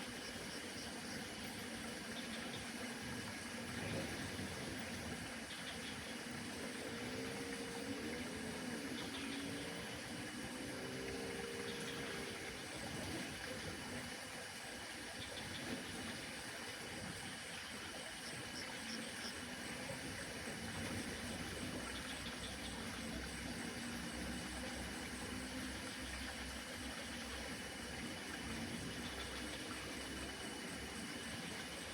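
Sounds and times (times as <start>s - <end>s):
faint wavering hum: 0.0s - 31.9s.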